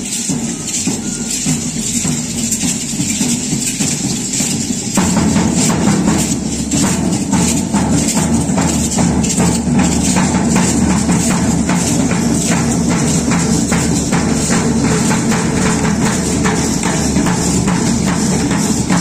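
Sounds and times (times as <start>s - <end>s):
percussive music with jingling strikes: 0.0s - 19.0s.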